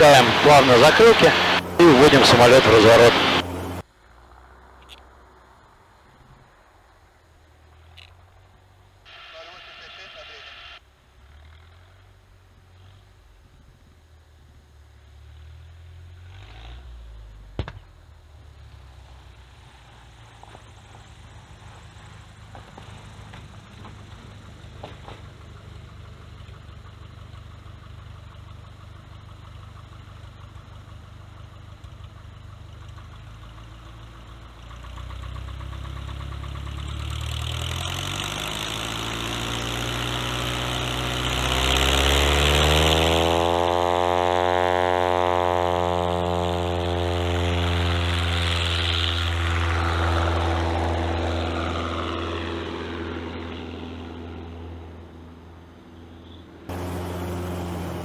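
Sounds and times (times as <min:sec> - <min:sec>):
propeller aeroplane engine: 0:00.0 - 0:58.0.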